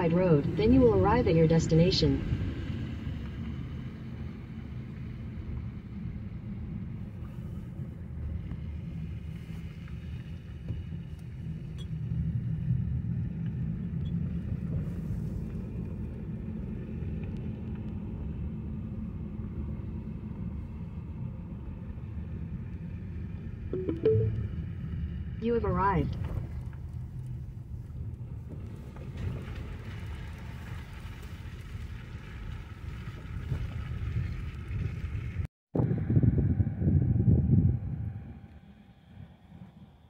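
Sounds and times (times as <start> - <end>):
car cabin road rumble: 0.0 - 23.2, 25.0 - 36.8.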